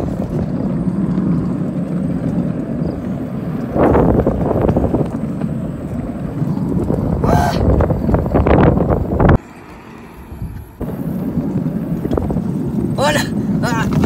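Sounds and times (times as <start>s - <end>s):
wheels rolling on asphalt: 0.0s - 14.0s
wind buffeting microphone: 0.0s - 14.0s.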